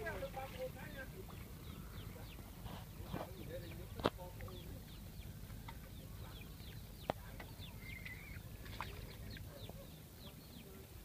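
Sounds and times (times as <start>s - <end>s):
birds chirping: 0.0s - 11.0s
low steady rumble: 0.0s - 11.0s.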